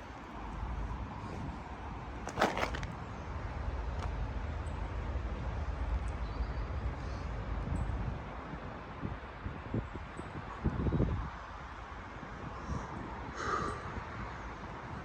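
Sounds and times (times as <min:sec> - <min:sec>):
passing road traffic: 0:00.0 - 0:15.0
wind: 0:00.0 - 0:15.0.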